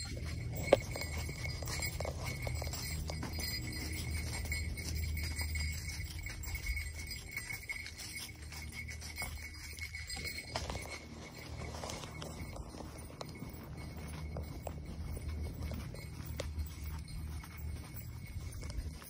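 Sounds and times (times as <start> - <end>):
horse hoofbeats on leafy trail: 0.0 - 19.0
metallic jingling: 0.0 - 19.0.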